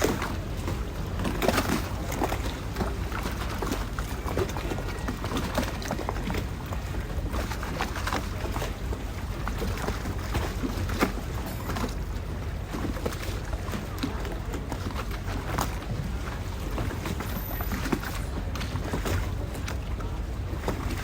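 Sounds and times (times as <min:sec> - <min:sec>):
water lapping against boat hulls: 0:00.0 - 0:21.0.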